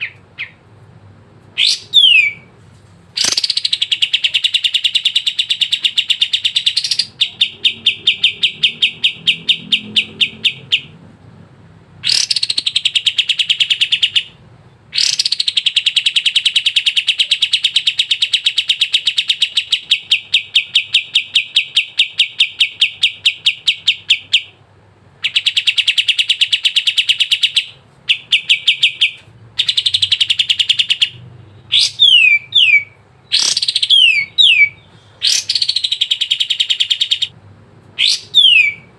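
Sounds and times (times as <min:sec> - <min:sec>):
songbird trilling: 0:00.0 - 0:00.6, 0:01.6 - 0:02.5, 0:03.2 - 0:10.9, 0:12.0 - 0:24.6, 0:25.2 - 0:37.3, 0:38.0 - 0:38.9.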